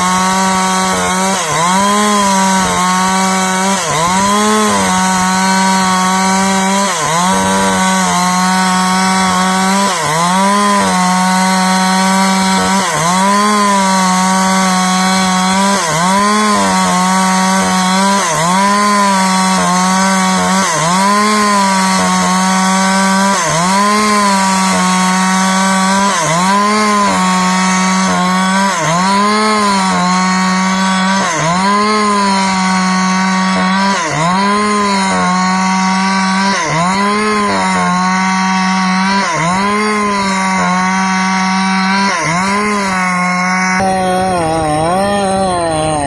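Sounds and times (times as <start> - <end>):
chainsaw cutting through log: 0.0 - 46.0.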